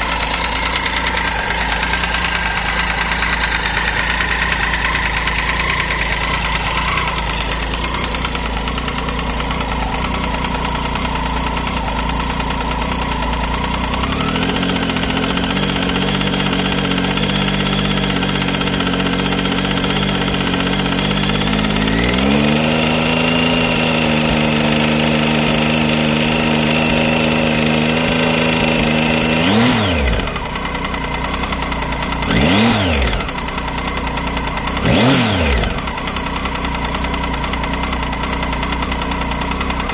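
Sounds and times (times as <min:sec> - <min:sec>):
engine ticking: 0:00.0 - 0:39.9
motorcycle engine running: 0:00.0 - 0:39.9.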